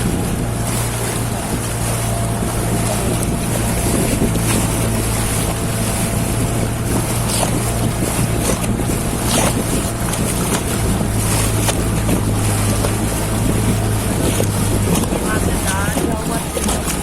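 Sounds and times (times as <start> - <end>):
motorboat engine running: 0.0 - 17.0
water rushing past hull: 0.0 - 17.0
wind buffeting microphone: 0.0 - 17.0.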